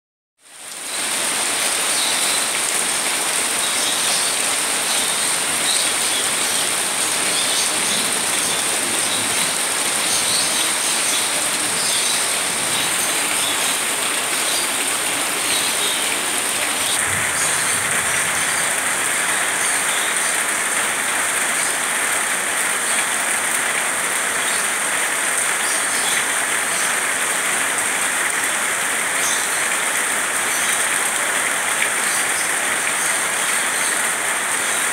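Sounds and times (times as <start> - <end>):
heavy rain on leaves: 0.4 - 34.9.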